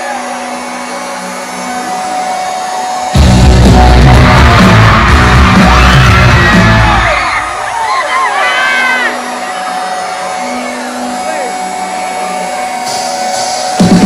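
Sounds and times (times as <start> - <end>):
music with heavy bass: 0.0 - 7.9, 8.8 - 14.0
crowd screaming and cheering: 0.0 - 14.0.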